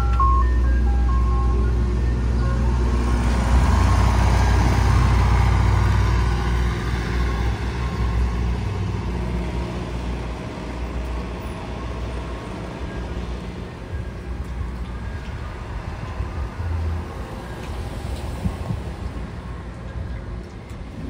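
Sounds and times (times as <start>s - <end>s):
truck engine driving off: 0.0s - 21.0s.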